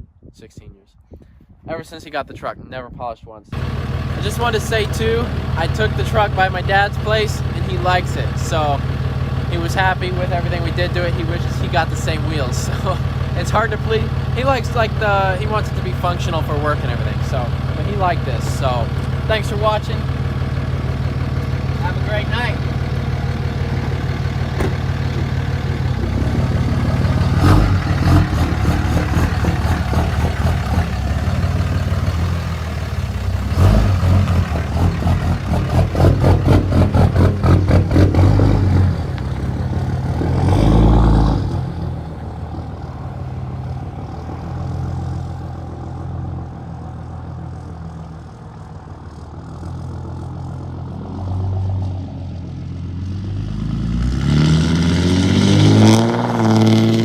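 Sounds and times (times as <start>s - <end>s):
truck engine revving: 3.6s - 57.0s.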